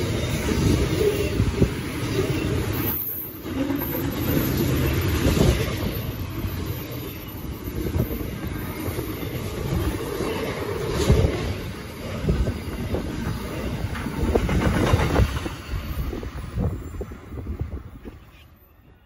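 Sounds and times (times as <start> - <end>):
rumble of train wheels on rail: 0.0 - 19.0.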